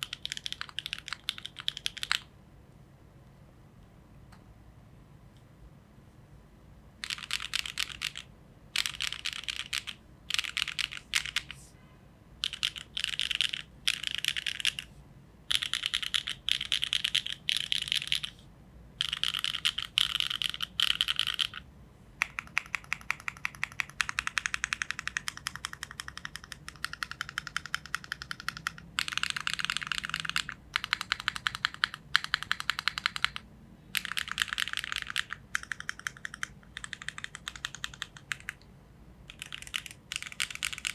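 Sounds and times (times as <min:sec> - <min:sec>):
mechanical keyboard typing: 0:00.0 - 0:02.3, 0:07.0 - 0:11.6, 0:12.4 - 0:14.9, 0:15.5 - 0:18.4, 0:19.0 - 0:38.7, 0:39.3 - 0:40.9.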